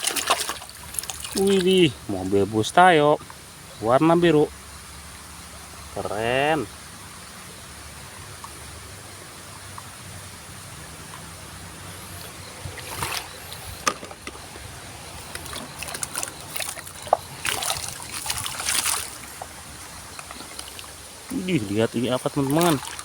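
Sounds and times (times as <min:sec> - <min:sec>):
water splashing and dribbling: 0:00.0 - 0:23.0.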